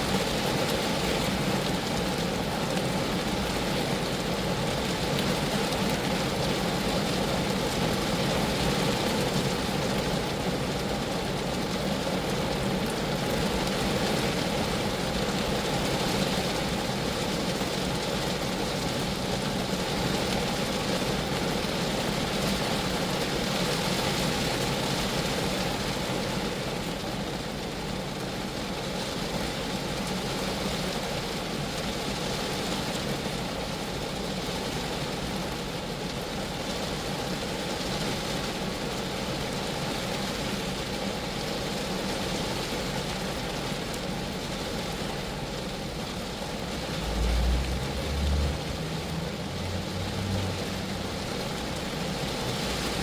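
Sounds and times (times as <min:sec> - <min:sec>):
rain on a car: 0:00.0 - 0:53.0.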